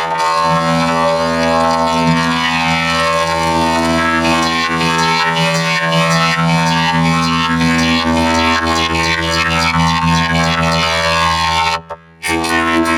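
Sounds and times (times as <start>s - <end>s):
distorted synth drone: 0.0s - 12.9s.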